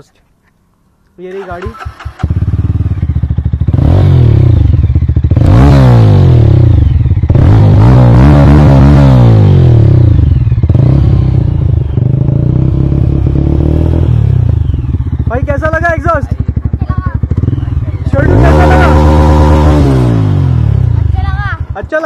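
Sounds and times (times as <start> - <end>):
motorcycle engine idling and revving: 1.2 - 22.0.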